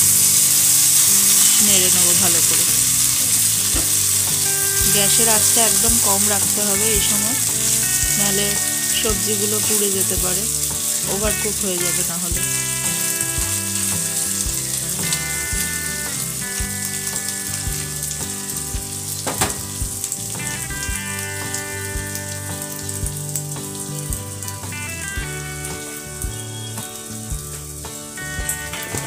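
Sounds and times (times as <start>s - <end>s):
background music: 0.0s - 29.0s
vegetables sizzling in a wok: 0.0s - 29.0s.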